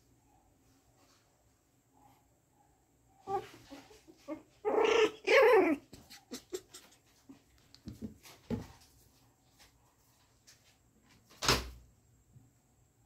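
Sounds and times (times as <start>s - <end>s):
quiet puppy sounds: 0.0s - 11.2s.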